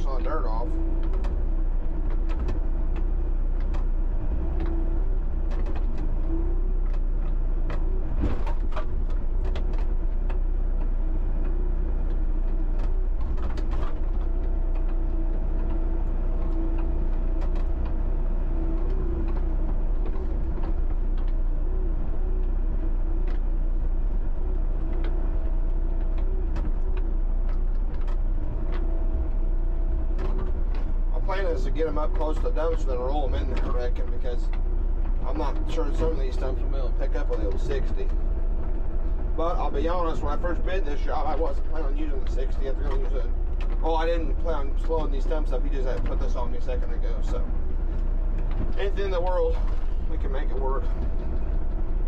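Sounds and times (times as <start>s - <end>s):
excavator diesel engine humming: 0.0s - 52.0s.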